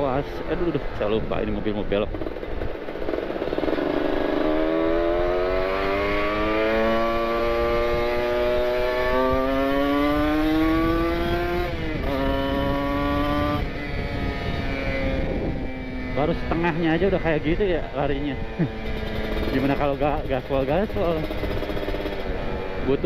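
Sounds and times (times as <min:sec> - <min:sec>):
motorcycle engine accelerating: 0:00.0 - 0:23.0
wind noise: 0:00.0 - 0:23.0.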